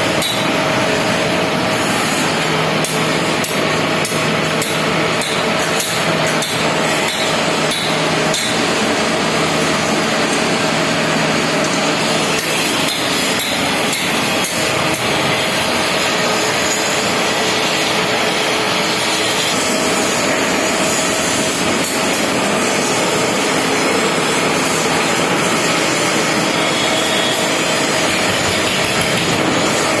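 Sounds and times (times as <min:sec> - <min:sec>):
band saw cutting wood: 0:01.7 - 0:30.0.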